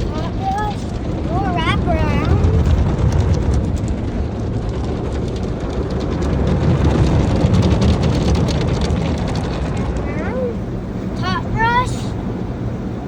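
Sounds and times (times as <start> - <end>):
water spraying and drumming on car: 0.0 - 13.0.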